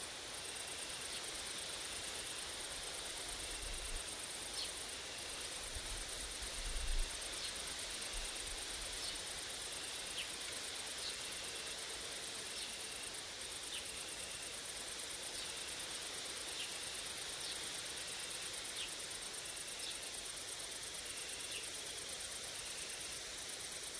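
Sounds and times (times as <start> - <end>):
insects trilling: 0.0 - 23.9.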